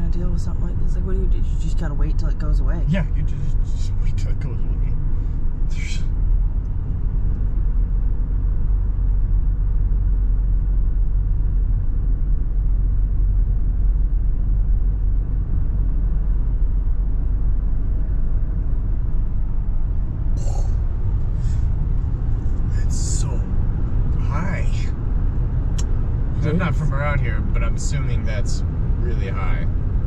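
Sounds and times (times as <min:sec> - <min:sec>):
road and engine noise in car: 0:00.0 - 0:30.0.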